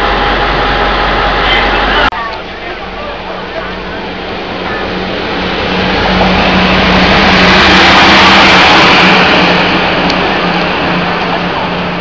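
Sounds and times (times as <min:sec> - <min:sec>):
diesel locomotive engine hum: 0:00.0 - 0:12.0.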